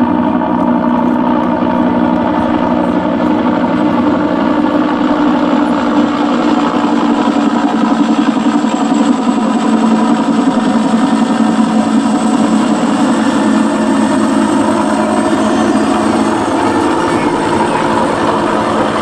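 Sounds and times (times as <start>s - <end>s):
helicopter rotor and engine drone: 0.0s - 19.0s.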